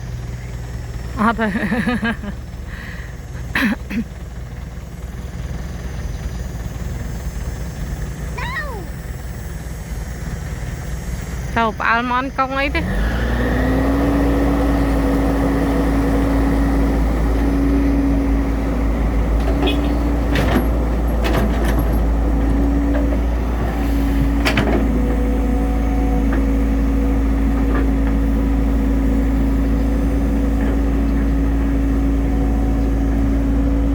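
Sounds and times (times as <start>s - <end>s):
excavator diesel engine revving: 0.0s - 33.9s.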